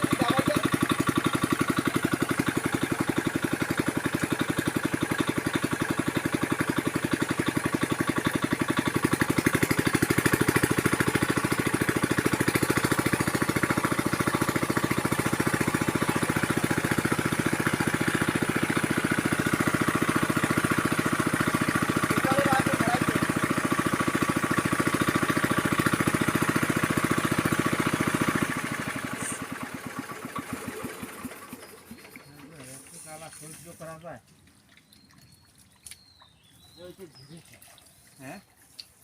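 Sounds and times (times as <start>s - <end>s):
small engine chugging: 0.0s - 38.9s.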